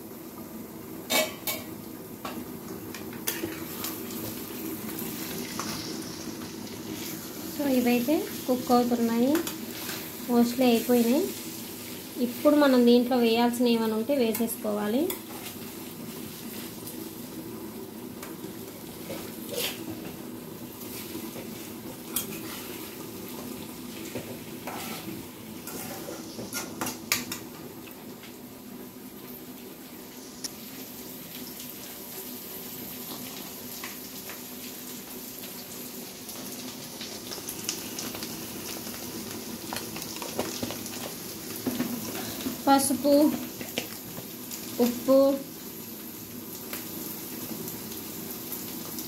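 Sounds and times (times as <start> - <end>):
food sizzling in oil: 0.0 - 49.0.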